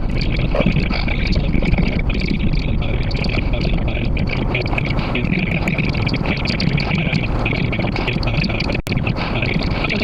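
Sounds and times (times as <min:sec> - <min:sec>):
car road noise: 0:00.0 - 0:10.0
choppy high hiss: 0:00.0 - 0:10.0.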